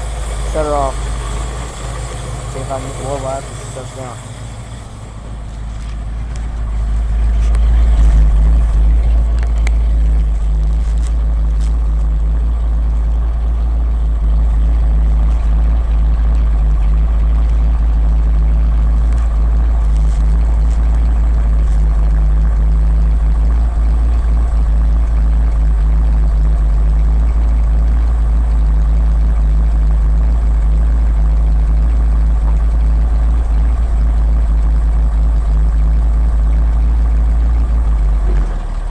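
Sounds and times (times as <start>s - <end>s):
engine running with low rumble: 0.0s - 38.9s.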